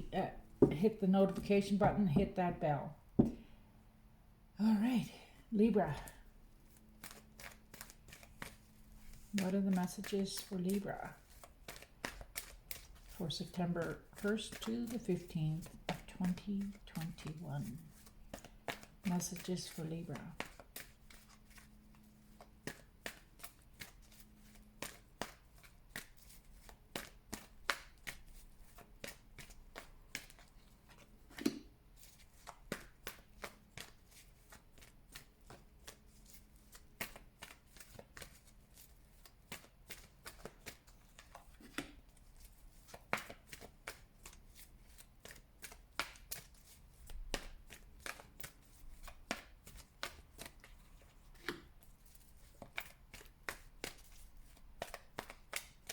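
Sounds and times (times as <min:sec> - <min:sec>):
cards being shuffled: 0:06.7 - 0:13.2, 0:14.0 - 0:15.0, 0:15.6 - 0:55.9.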